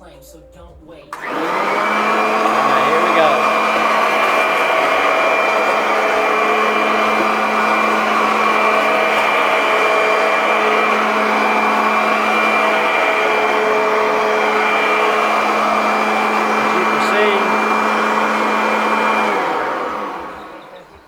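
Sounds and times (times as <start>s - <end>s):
upright vacuum cleaner running: 1.1s - 21.0s.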